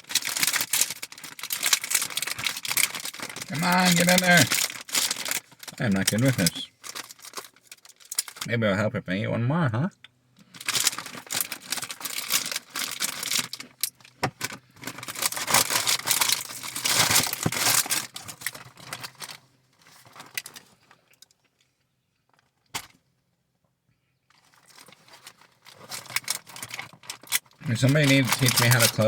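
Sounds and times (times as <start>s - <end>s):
wrapper rustling and crackling: 0.0s - 8.5s, 10.4s - 21.2s, 24.3s - 29.0s.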